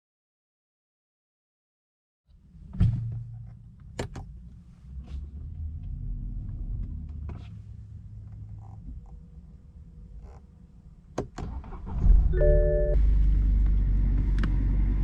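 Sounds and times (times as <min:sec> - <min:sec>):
car engine rumble inside cabin: 0:02.4 - 0:15.0.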